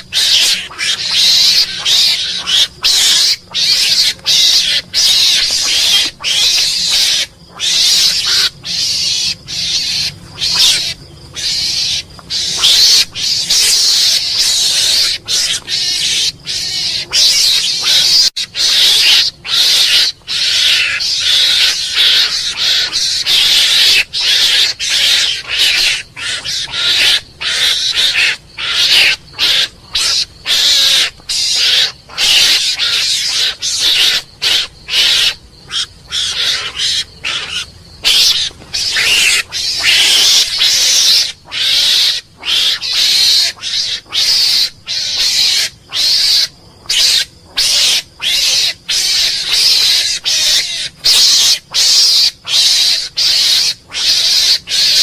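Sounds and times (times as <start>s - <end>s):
mongoose shrill calls: 0.0s - 55.0s.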